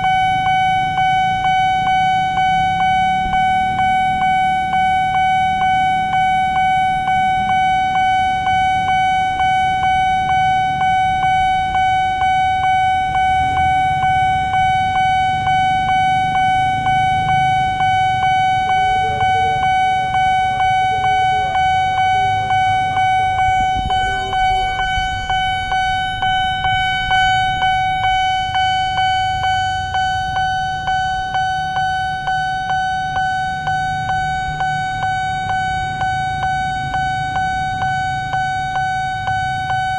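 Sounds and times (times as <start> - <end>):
level-crossing warning bell ringing: 0.0 - 39.9
road traffic rumble: 0.0 - 39.9.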